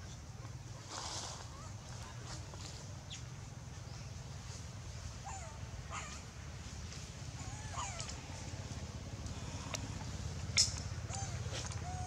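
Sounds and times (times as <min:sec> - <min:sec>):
steady low rumble: 0:01.8 - 0:12.0.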